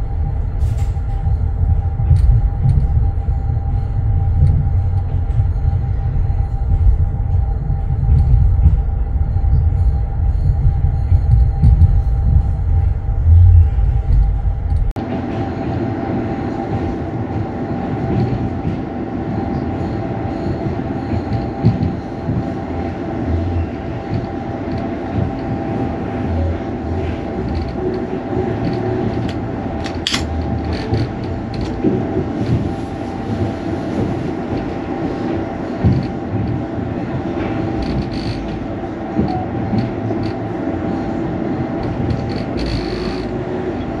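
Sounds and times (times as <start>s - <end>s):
train rumbling and rattling: 0.0s - 44.0s.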